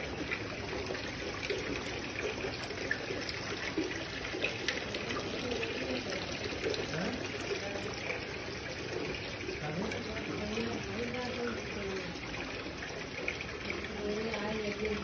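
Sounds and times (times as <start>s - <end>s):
fountain water trickling and splashing: 0.0s - 15.0s.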